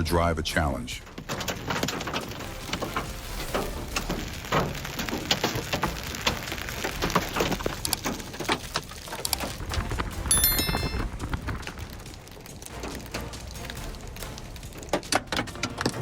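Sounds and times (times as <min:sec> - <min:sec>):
hailstones striking hard surfaces: 0:01.0 - 0:16.0.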